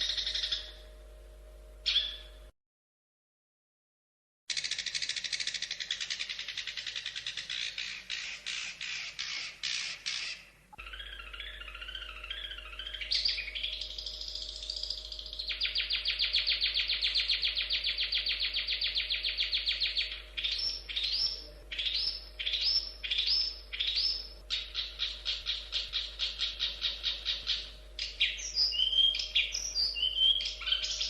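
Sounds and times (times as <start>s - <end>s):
bird singing varied song: 0.0s - 1.1s, 1.8s - 2.5s, 4.5s - 31.0s
faint electrical hum: 0.0s - 2.5s, 4.5s - 31.0s.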